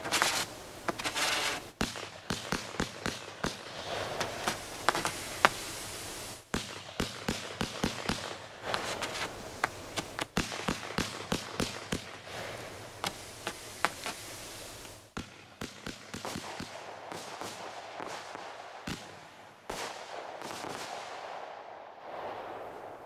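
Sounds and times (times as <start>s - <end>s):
fireworks popping and cracking: 0.0s - 21.2s
steady hiss: 0.0s - 23.0s.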